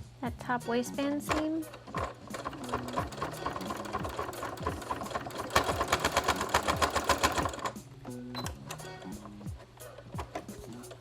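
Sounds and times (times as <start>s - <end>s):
sewing machine needle clattering: 1.0s - 11.0s.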